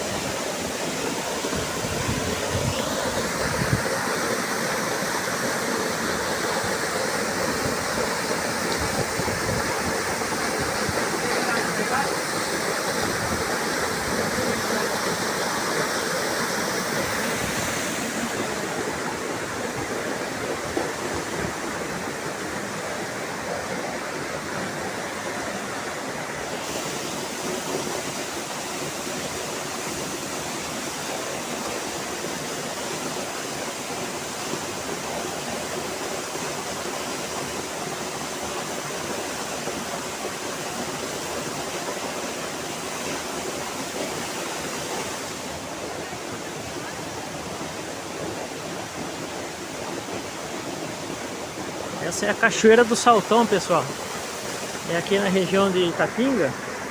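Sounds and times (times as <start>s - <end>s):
waterfall onto rocks: 0.0s - 56.9s.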